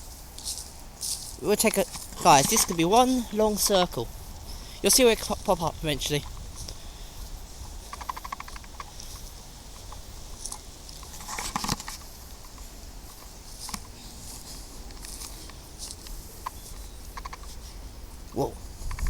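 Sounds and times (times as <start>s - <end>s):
footsteps crunching on dry path: 0.0s - 19.0s.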